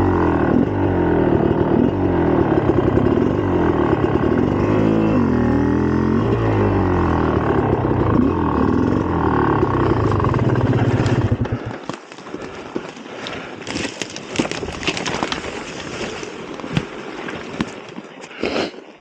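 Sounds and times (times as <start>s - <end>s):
two-stroke dirt bike engine: 0.0s - 17.7s.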